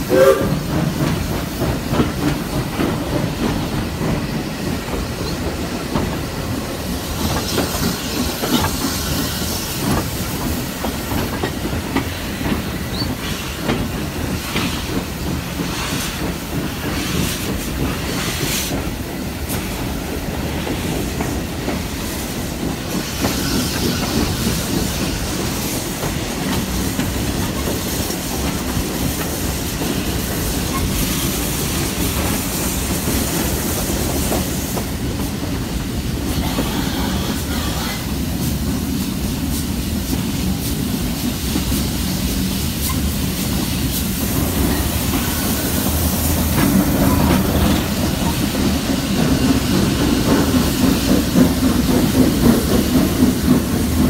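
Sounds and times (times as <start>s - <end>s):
train rumble: 0.0s - 54.0s
wheels clickety-clack over joints: 0.1s - 54.0s.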